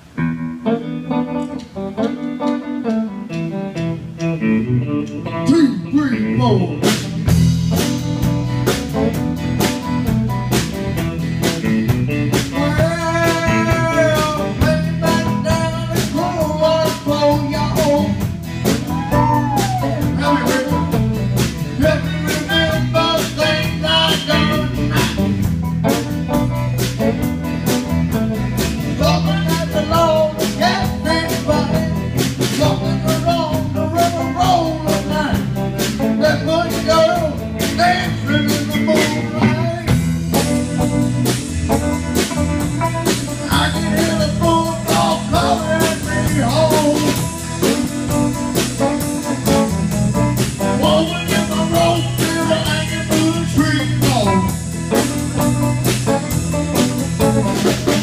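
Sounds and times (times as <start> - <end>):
acoustic guitar: 0.0 - 58.0
drum kit: 0.0 - 58.0
electric guitar: 0.0 - 58.0.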